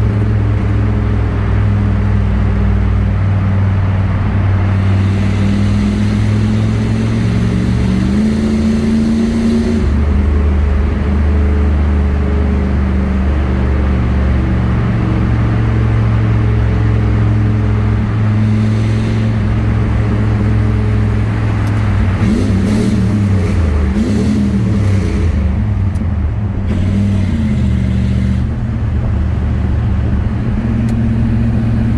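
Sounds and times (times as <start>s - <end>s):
car engine at speed in tunnel: 0.0s - 31.9s.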